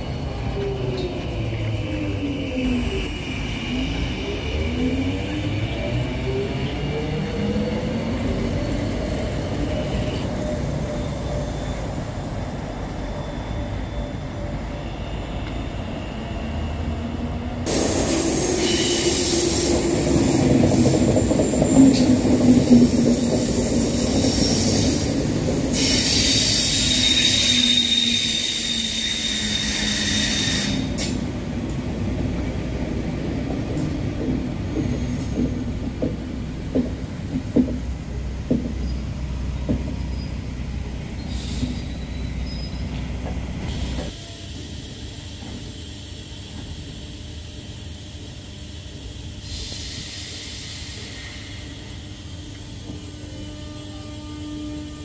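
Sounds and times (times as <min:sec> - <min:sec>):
tram running past: 0:00.0 - 0:49.1.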